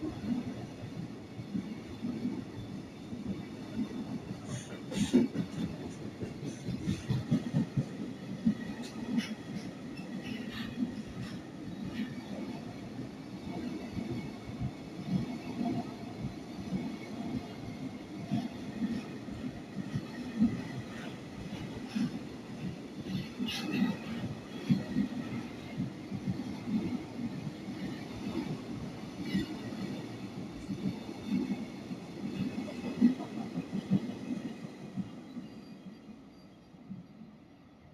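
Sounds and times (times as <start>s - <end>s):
train wheels clacking on rail joints: 3.2s - 35.1s.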